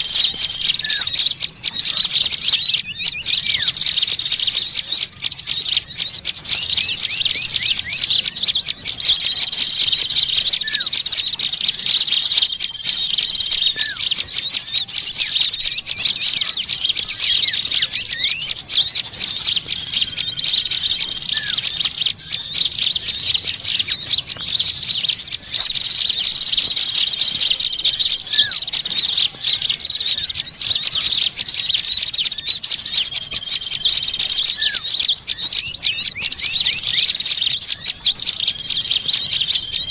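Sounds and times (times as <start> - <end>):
songbirds chattering and alarm-calling: 0.0 - 39.9.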